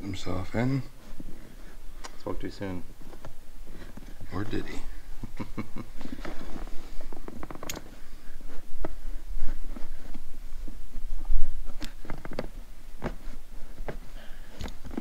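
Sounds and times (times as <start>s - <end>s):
rubber grommets scuffing plastic: 0.0s - 5.2s, 5.9s - 15.0s.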